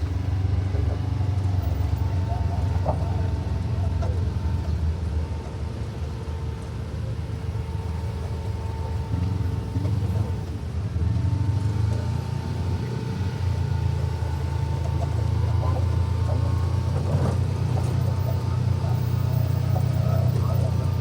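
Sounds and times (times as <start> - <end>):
engine droning under load: 0.0 - 21.0.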